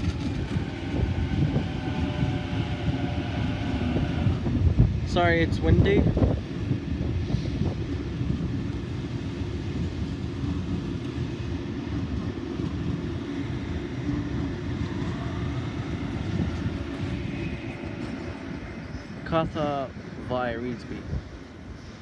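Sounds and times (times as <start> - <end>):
train rumbling on track: 0.0 - 22.0
wind buffeting microphone: 0.0 - 22.0.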